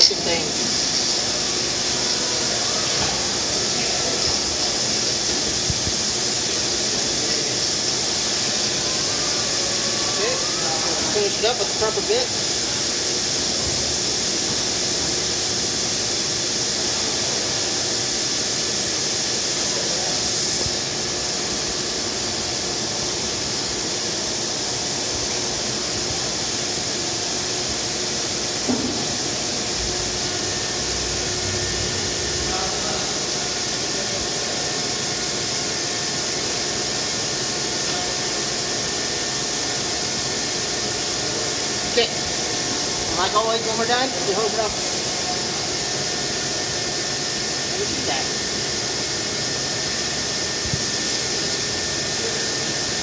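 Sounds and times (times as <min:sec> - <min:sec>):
machine spindle hissing and rumbling: 0:00.0 - 0:53.0.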